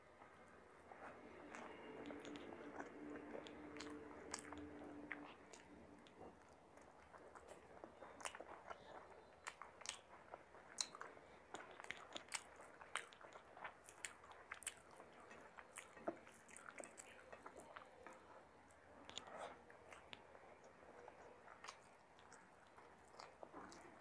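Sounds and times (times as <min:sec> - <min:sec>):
faint chewing with lip smacks: 0:00.1 - 0:24.0.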